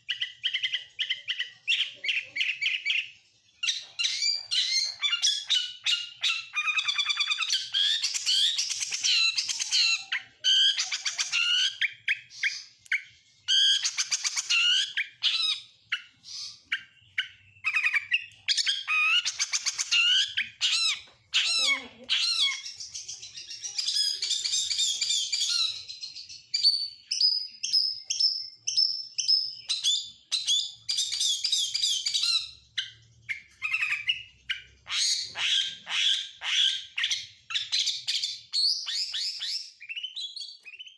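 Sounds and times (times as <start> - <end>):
songbird singing varied song: 0.0 - 40.9.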